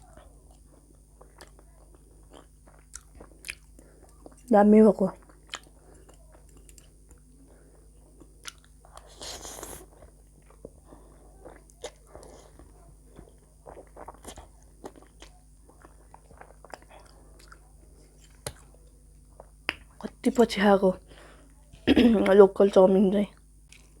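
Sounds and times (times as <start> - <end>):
chewing noodles: 0.0 - 4.5, 5.2 - 20.0.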